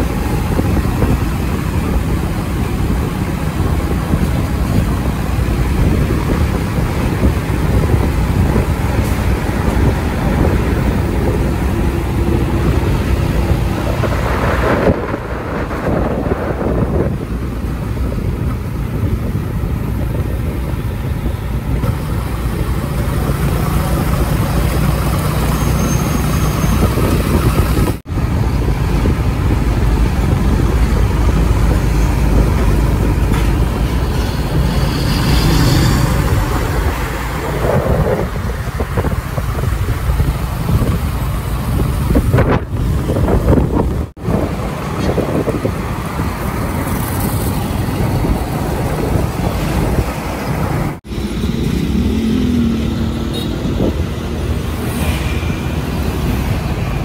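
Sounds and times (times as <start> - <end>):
trucks' diesel engines passing: 0.0 - 57.0
tyre and road noise: 0.0 - 57.0.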